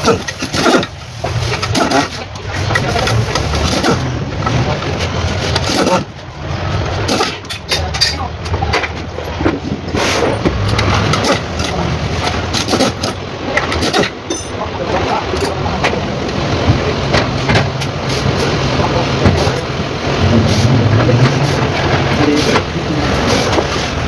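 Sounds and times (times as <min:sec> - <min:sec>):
diesel engine running: 0:00.0 - 0:24.0
sharp irregular engine clicks: 0:00.0 - 0:24.0.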